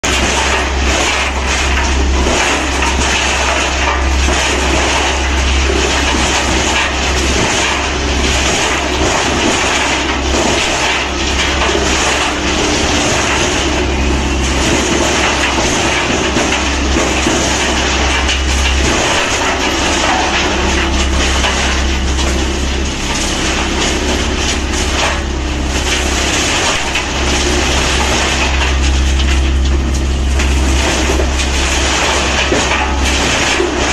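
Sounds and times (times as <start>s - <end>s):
wood chipper grinding wood: 0.0s - 33.9s.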